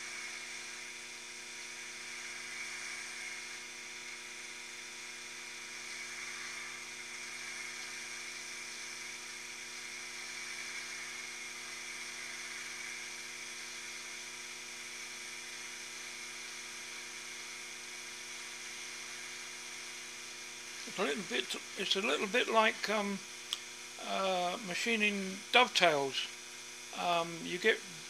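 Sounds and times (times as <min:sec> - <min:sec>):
lathe motor whine with hiss: 0:00.0 - 0:28.0.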